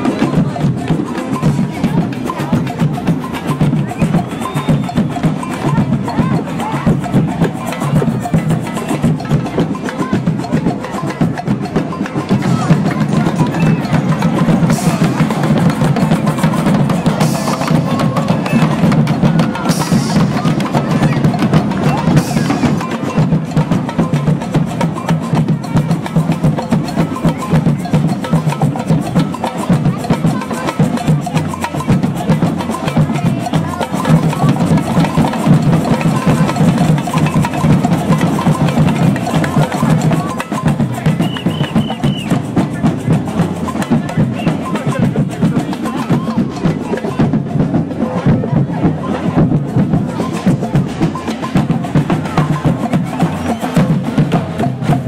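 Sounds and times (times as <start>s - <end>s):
percussion music: 0.0s - 55.0s.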